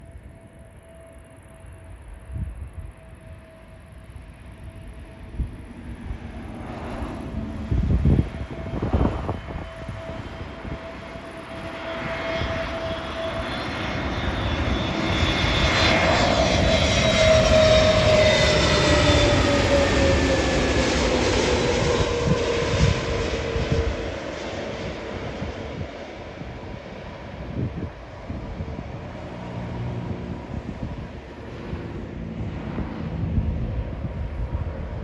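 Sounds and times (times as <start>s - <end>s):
jet airliner passing by: 0.0s - 35.0s.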